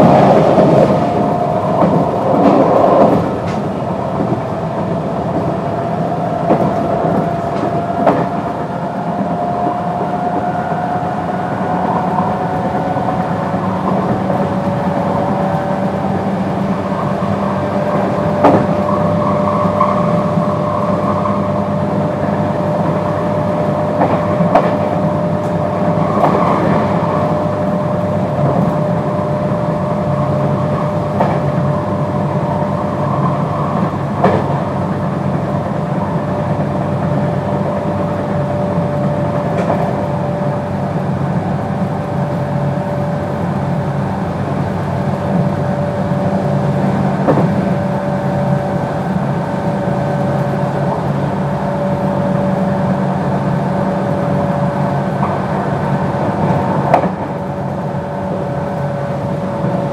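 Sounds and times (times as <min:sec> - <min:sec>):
electric train drive whine: 0:00.0 - 0:59.9
wheels clicking over rails: 0:00.0 - 0:59.9.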